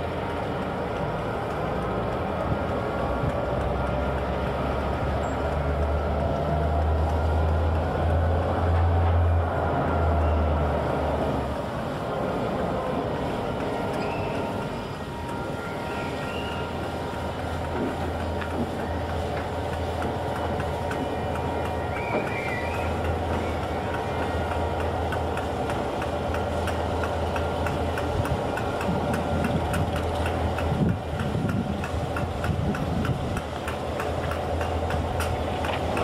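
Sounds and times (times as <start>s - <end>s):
diesel locomotive running: 0.0s - 36.0s
wheels clicking over rail joints: 0.0s - 36.0s.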